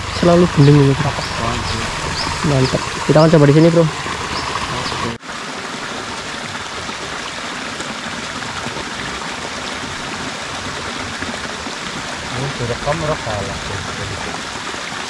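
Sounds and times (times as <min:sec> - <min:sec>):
small water cascade splashing: 0:00.0 - 0:15.0.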